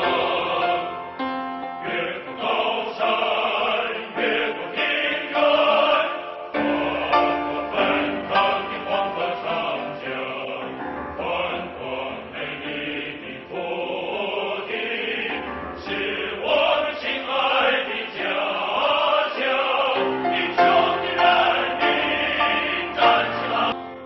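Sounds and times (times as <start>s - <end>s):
background music with choir: 0.0s - 24.0s.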